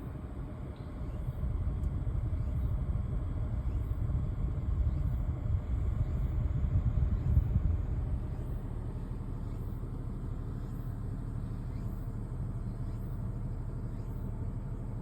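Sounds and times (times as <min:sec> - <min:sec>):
car engine rumbling: 0:01.4 - 0:15.0.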